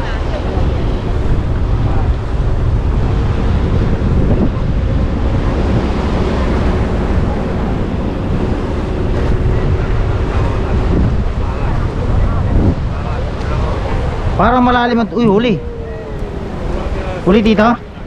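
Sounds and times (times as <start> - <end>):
surf breaking against seawall: 0.0 - 18.0
wind buffeting microphone: 0.0 - 18.0.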